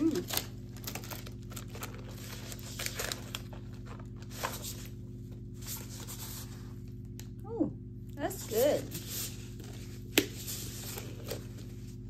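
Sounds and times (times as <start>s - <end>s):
rustling and crinkling: 0.0s - 7.1s, 8.5s - 12.0s.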